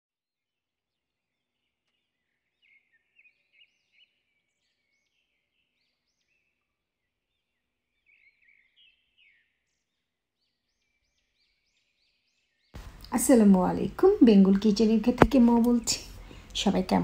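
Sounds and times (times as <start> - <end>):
small birds chirping: 1.0 - 17.0.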